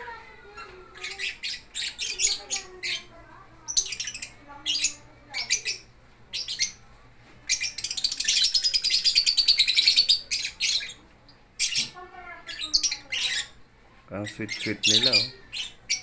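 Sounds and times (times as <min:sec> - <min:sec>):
lovebirds chirping and chattering: 0:00.0 - 0:16.0.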